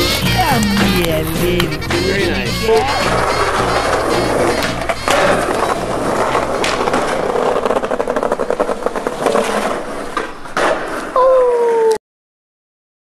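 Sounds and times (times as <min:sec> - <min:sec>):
skateboard clack: 0:00.0 - 0:11.2
skateboard scrape: 0:00.0 - 0:11.2
skateboard wheels clattering on bricks: 0:00.0 - 0:11.2.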